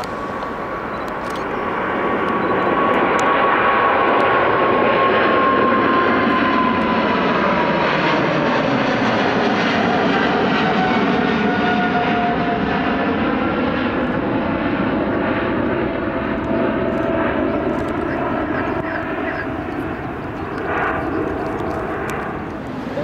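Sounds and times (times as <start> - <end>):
jet engines roaring at take-off: 0.0 - 23.0.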